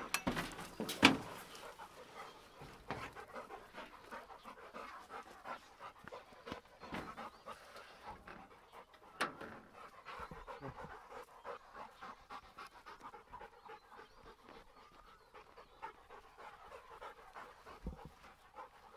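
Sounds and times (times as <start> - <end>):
dog panting: 0.0 - 18.9.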